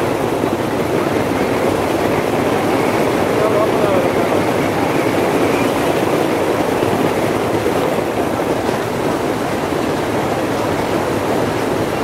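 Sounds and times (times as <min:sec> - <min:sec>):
surf noise: 0:00.0 - 0:12.0.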